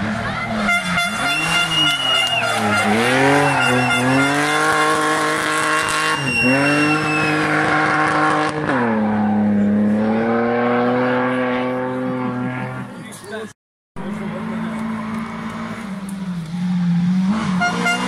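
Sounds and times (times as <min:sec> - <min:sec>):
rally car engine accelerating: 0:00.0 - 0:13.1, 0:14.0 - 0:18.0.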